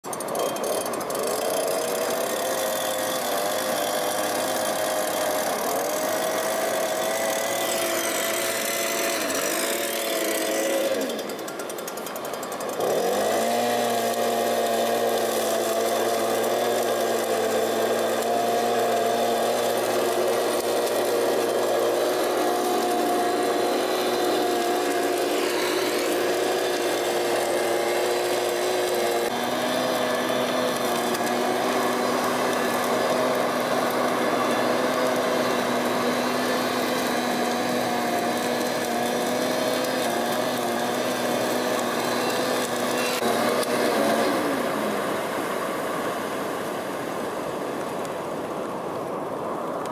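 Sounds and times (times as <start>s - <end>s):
two-stroke engine running: 0.0s - 47.5s
nozzle sucking sand: 0.0s - 49.9s.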